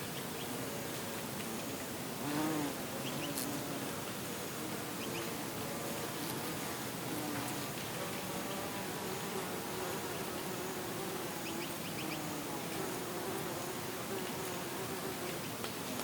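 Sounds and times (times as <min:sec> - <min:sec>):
soft hiss of outdoor air: 0:00.0 - 0:16.0
bee buzzing: 0:02.1 - 0:16.0.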